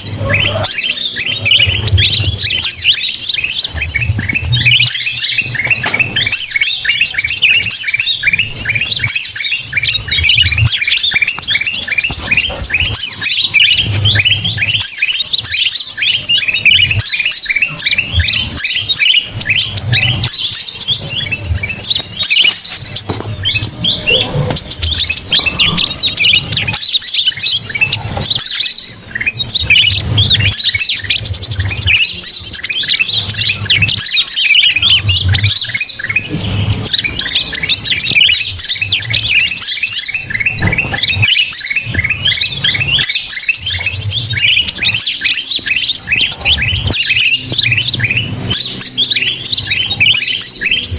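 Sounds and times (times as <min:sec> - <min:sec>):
small birds chattering and calling: 0:00.0 - 0:50.9.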